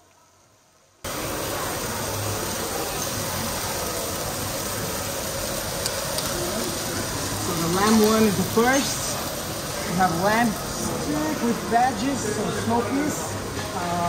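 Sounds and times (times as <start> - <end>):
meat sizzling on hot plate: 1.1 - 14.0.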